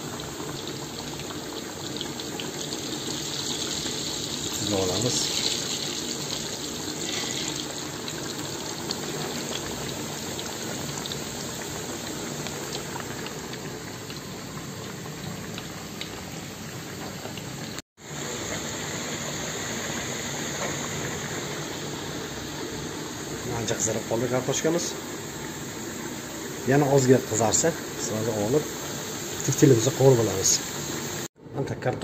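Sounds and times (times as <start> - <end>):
potato wedges deep-frying: 0.0 - 31.3.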